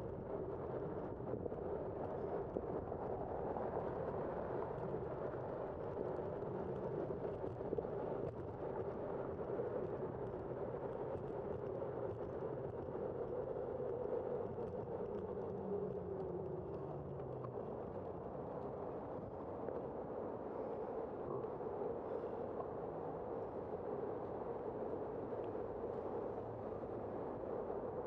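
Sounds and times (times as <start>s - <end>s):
wind on microphone: 0.0s - 28.0s.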